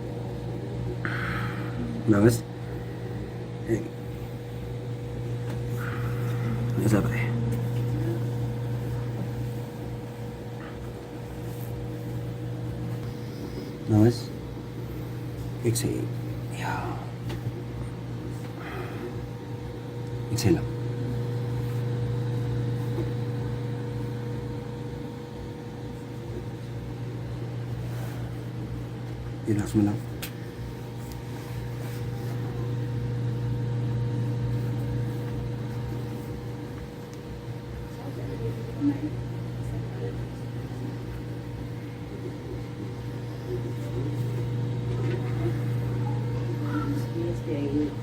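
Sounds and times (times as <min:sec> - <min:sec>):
low hum of running appliance: 0:00.0 - 0:48.0.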